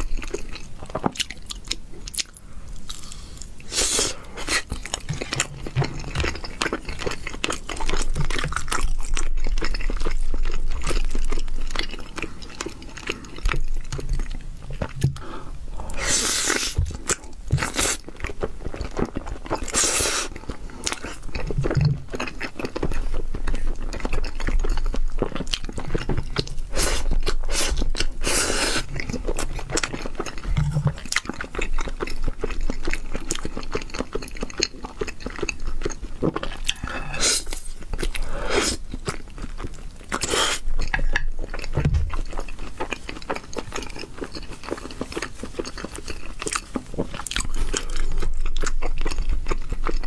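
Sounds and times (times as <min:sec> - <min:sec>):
person chewing: 0:00.0 - 0:50.0.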